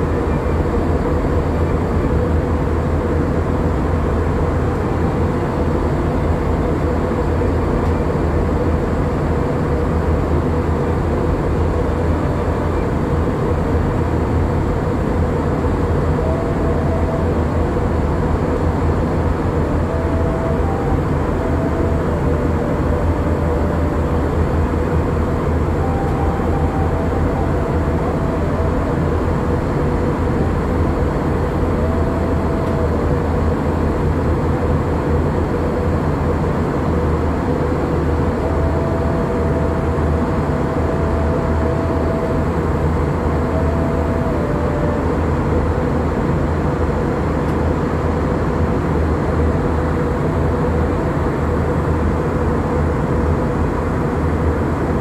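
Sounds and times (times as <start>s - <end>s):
airplane cabin rumble: 0.0s - 55.0s
constant hum: 0.0s - 55.0s.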